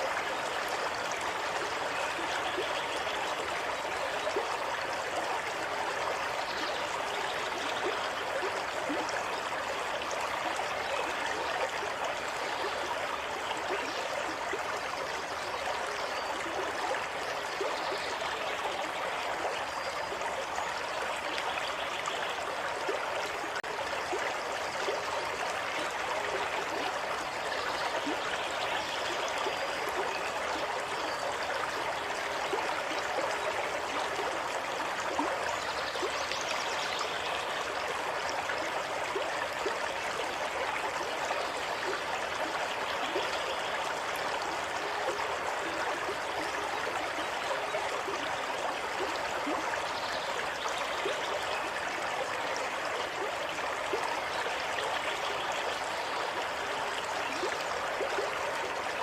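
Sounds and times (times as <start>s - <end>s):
stream water running over rocks: 0.0s - 59.0s.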